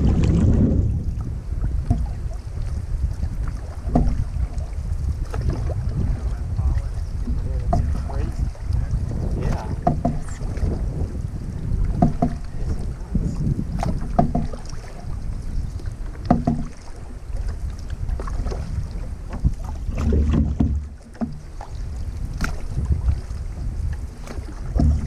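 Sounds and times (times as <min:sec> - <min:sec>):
water splashing against canoe: 0:00.0 - 0:25.0
wind rumble on microphone: 0:00.0 - 0:25.0.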